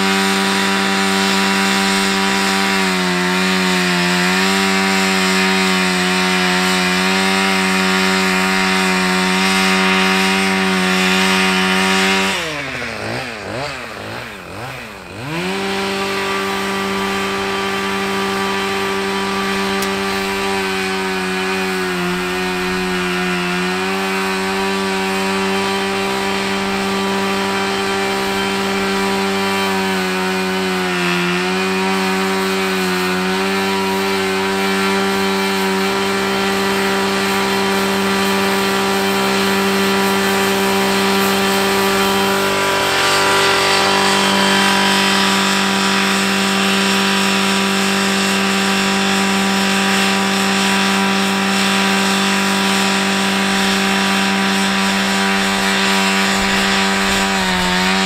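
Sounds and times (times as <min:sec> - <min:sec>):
pressure washer petrol engine running: 0:00.0 - 0:58.0.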